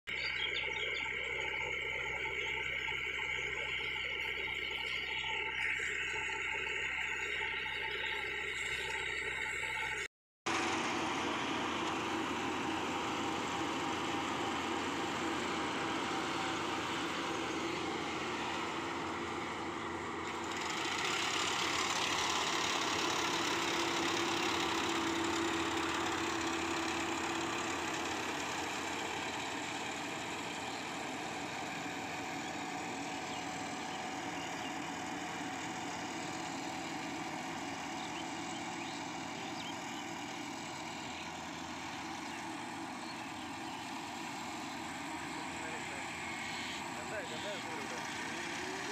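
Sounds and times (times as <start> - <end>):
combine harvester engine drone: 0.1 - 48.9.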